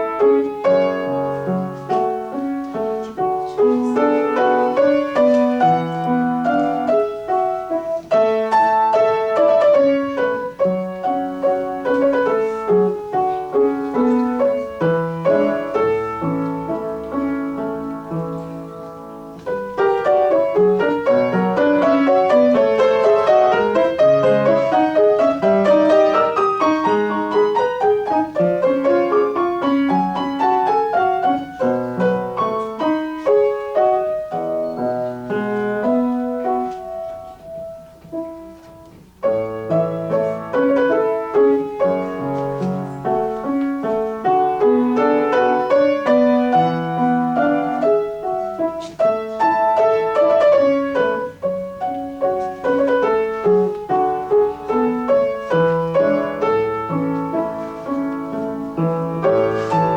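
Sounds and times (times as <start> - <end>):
solo piano classical piece: 0.0 - 59.9.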